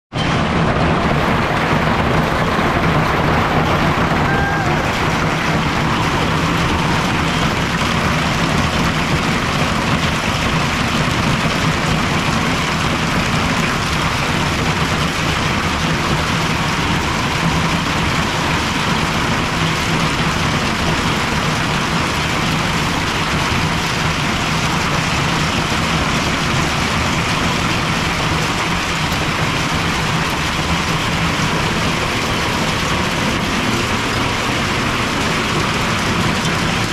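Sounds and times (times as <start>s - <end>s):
hail and rain on wooden deck: 0.2s - 36.9s.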